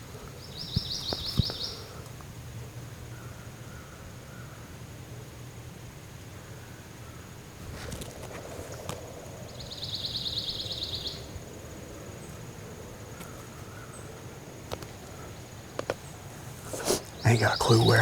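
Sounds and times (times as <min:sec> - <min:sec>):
low woodland rumble: 0:00.0 - 0:18.0.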